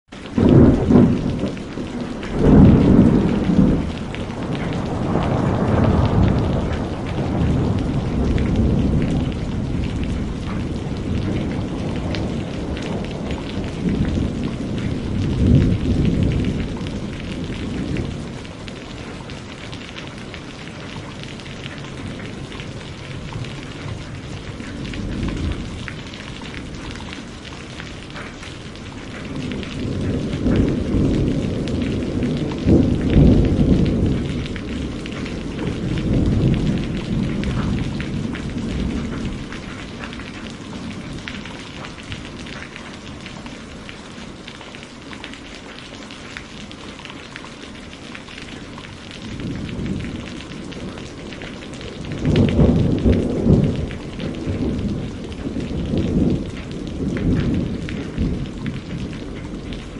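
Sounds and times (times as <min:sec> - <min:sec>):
steady rain: 0:00.0 - 0:59.9
thunder rolling: 0:00.3 - 0:44.4, 0:49.2 - 0:59.9.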